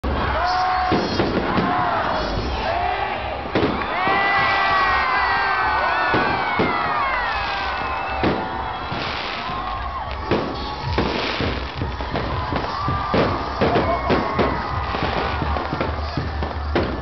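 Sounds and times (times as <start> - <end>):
crowd voices: 0.0 - 17.0
fireworks bangs: 0.0 - 17.0.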